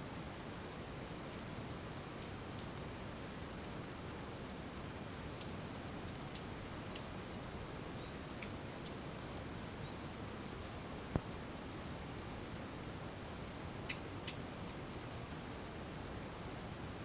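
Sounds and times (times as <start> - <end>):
steady rain: 0.0 - 17.0
small drips ticking: 1.3 - 16.3.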